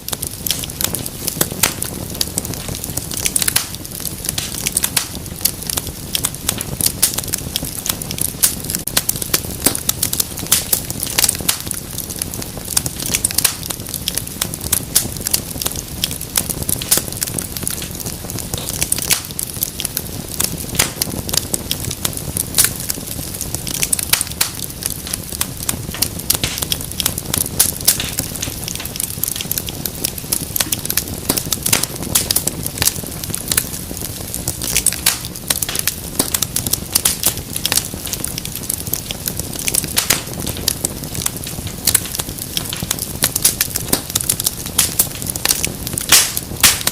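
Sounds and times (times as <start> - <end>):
flames rumbling: 0.0 - 46.9
wood fire popping and snapping: 0.0 - 46.9.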